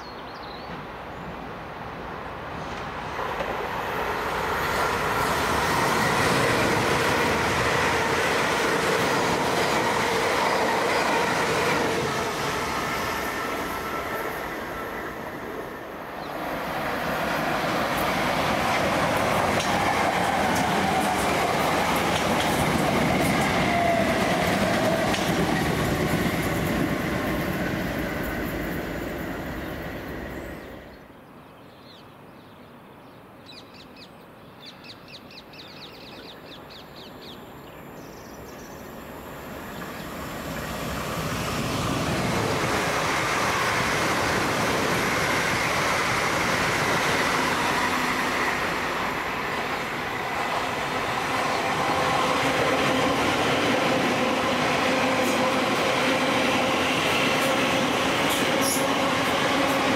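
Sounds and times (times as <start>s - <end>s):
train passing at speed: 0.0s - 32.0s, 35.1s - 59.9s
electric train rushing past: 0.7s - 31.1s, 38.3s - 59.9s.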